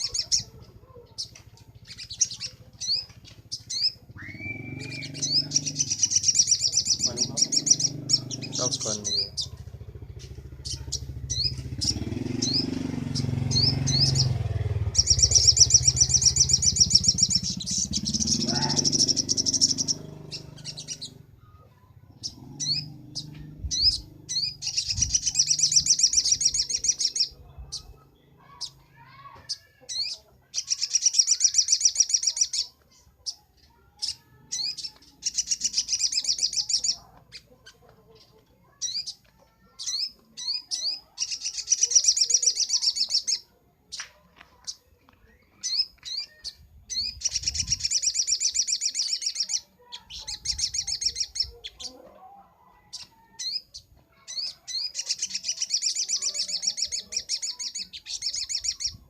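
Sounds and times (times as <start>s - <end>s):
bird sharp chirps: 0.0s - 21.2s, 22.0s - 51.9s, 52.9s - 59.0s
bird trilling song: 0.0s - 52.1s, 52.7s - 59.0s.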